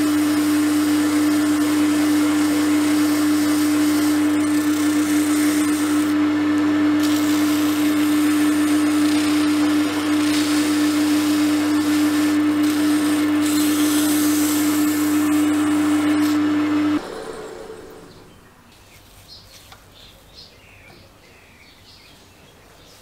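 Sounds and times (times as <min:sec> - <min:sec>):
electric motor whine: 0:00.0 - 0:18.5.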